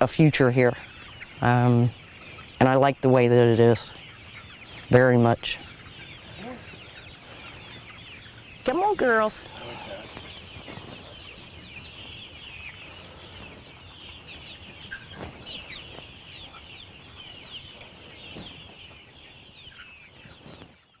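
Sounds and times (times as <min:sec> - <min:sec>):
chickens calling: 0:00.0 - 0:21.0.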